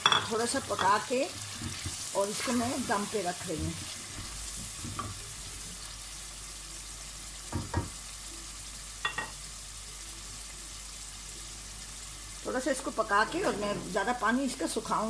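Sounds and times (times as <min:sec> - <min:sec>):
pot simmering hiss: 0:00.0 - 0:15.0.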